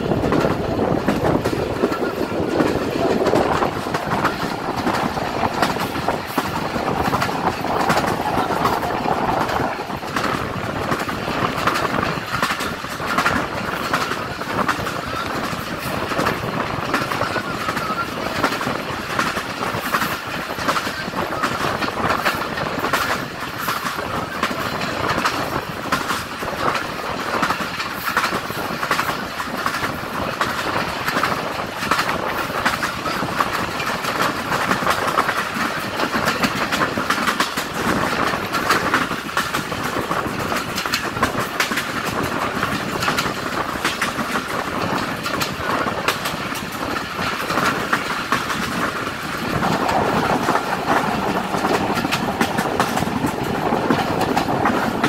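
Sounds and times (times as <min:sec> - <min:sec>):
train wheels rumbling on rails: 0:00.0 - 0:55.0
wheels clicking over rail joints: 0:00.0 - 0:55.0.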